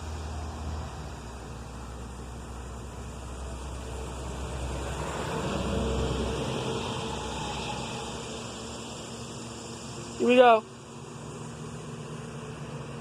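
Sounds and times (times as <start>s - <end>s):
car passing: 0.0s - 13.0s.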